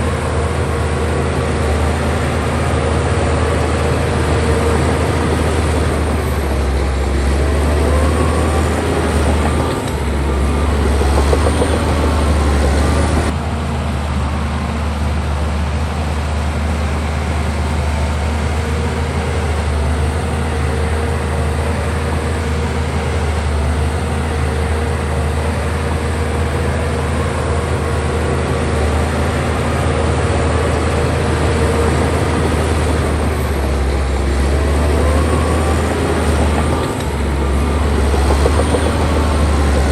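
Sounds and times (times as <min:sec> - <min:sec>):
bulldozer diesel engine drone: 0:00.0 - 0:39.9.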